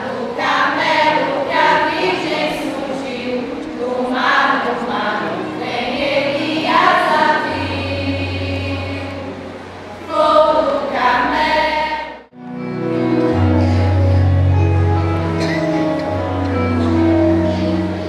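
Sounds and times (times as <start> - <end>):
choir singing a hymn: 0.0 - 18.0
music with held notes: 0.0 - 18.0.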